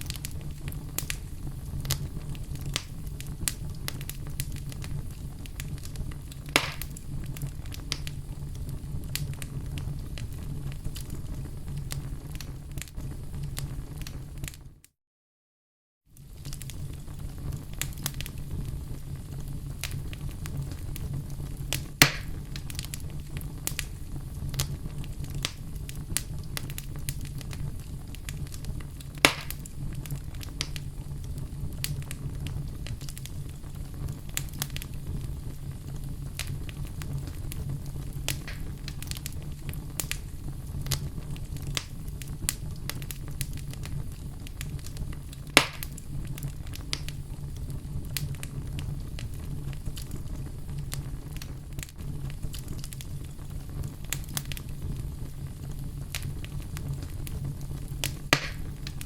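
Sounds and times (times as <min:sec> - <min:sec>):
sharp pops of fire: 0:00.0 - 0:14.6, 0:16.2 - 0:59.0
wood fire crackling: 0:00.0 - 0:14.8, 0:16.1 - 0:59.0.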